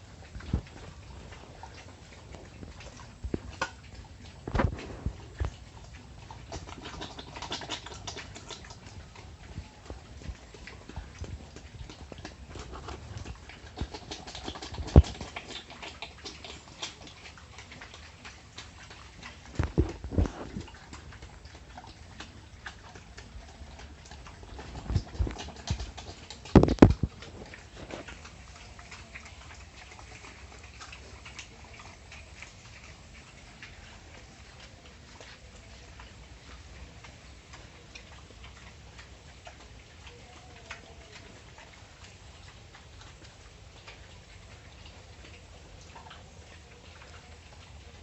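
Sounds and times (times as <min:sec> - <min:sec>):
pig trotters tapping: 0:00.0 - 0:48.0.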